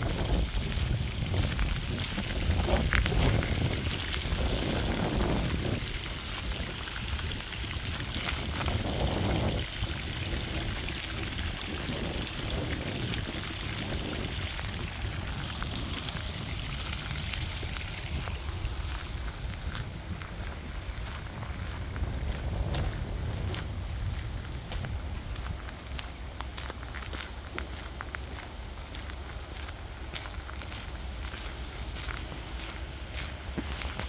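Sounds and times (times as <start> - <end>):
fountain water splashing: 0.0 - 34.0
wind rumbling on microphone: 0.0 - 34.0.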